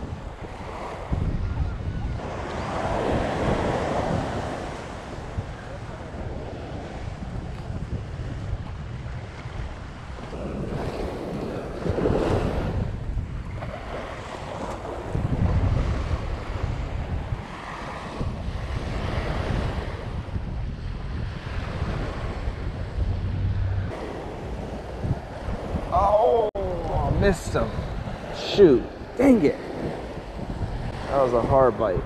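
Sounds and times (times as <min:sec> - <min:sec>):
ocean surf washing ashore: 0:00.0 - 0:32.0
wind buffeting microphone: 0:00.0 - 0:32.0.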